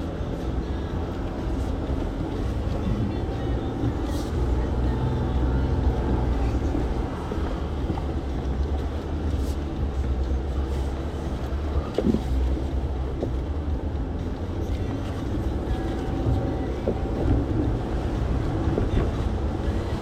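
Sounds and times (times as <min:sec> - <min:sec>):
engine rumbling at low revs: 0:00.0 - 0:20.0.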